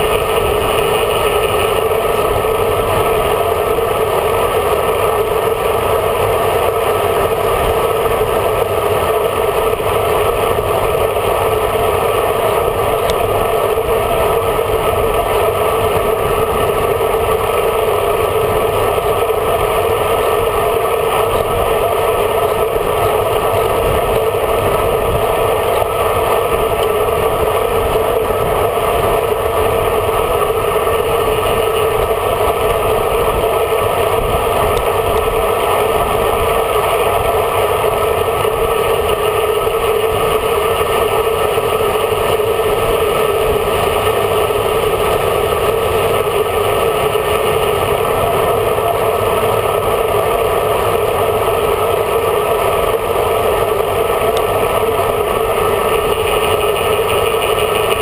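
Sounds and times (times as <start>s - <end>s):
wind rush over microphone: 0.0s - 46.8s
road noise: 0.0s - 58.0s.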